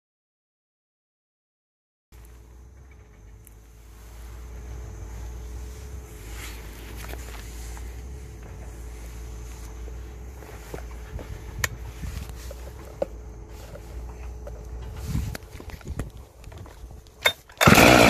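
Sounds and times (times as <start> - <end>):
low steady rumble: 2.2 - 17.9.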